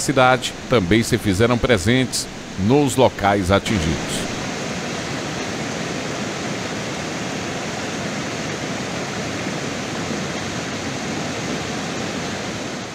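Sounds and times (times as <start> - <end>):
floodwater rushing through rapids: 0.0 - 12.9.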